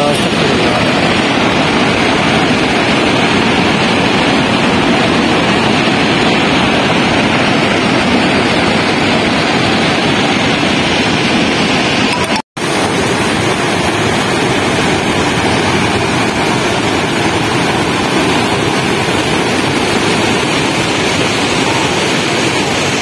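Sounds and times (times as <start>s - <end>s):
flood torrent rushing: 0.0s - 23.0s.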